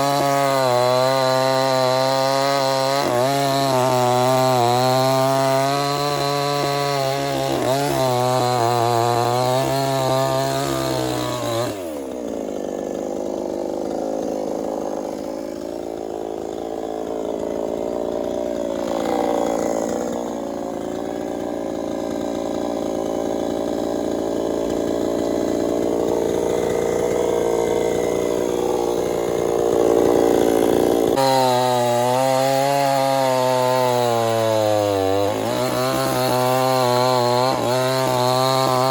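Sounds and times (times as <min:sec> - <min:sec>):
chainsaw cutting wood: 0:00.0 - 0:38.9
chainsaw engine revving: 0:00.0 - 0:38.9.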